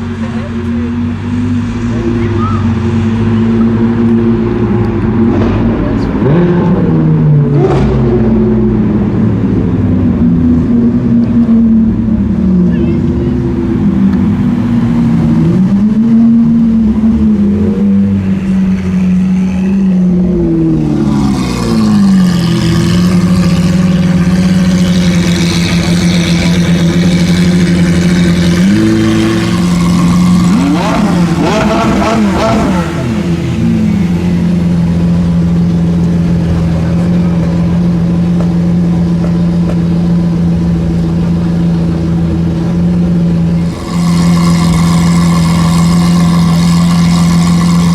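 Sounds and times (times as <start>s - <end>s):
car engines idling: 0.0s - 47.9s
car engines revving: 0.0s - 47.9s.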